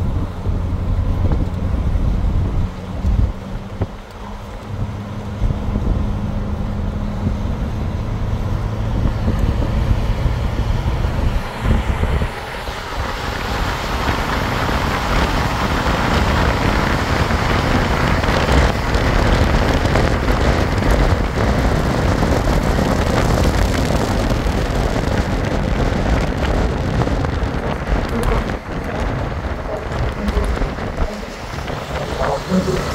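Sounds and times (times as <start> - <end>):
car road and wind noise: 0.0 - 32.9.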